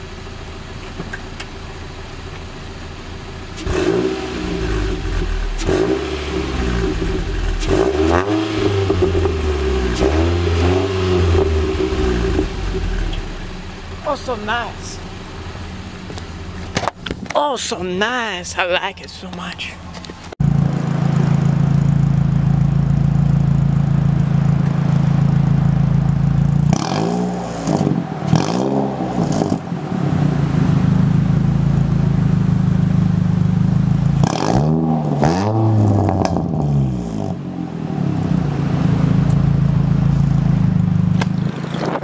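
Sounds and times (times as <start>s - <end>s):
car exhaust idling and revving: 0.0s - 18.6s, 19.4s - 42.0s.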